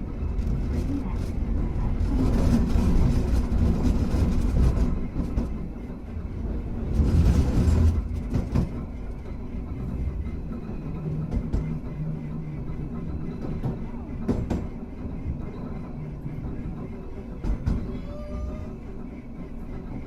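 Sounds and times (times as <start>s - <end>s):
tram motors and wheels rumbling: 0.0s - 20.0s.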